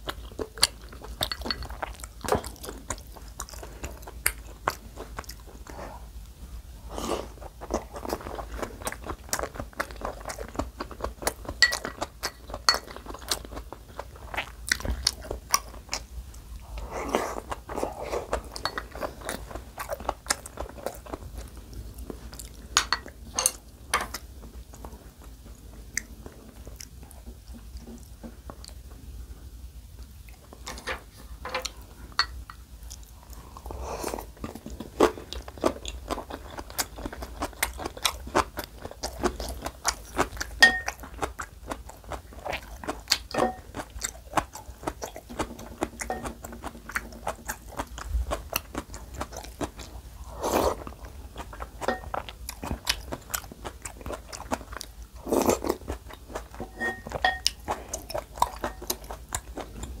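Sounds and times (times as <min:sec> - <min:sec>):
chewing crunchy food: 0:00.0 - 0:06.1, 0:06.9 - 0:29.0, 0:30.0 - 1:00.0.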